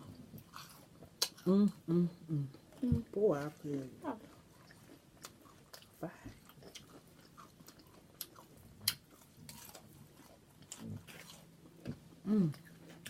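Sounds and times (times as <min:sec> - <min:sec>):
wet chewing: 0:00.0 - 0:01.5, 0:02.5 - 0:13.0.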